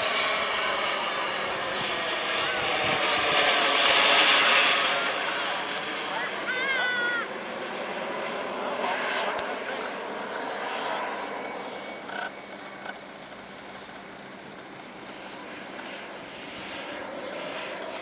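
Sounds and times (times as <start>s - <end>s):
model jet engine whoosh: 0.0s - 18.0s.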